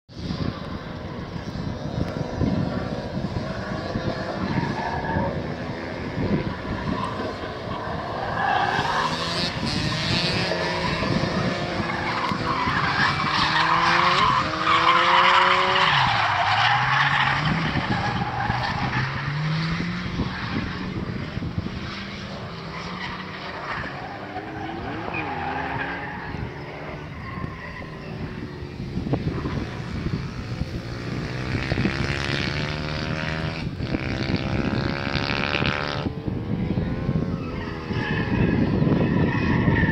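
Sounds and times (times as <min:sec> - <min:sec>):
car engines revving hard: 0:00.2 - 0:39.9.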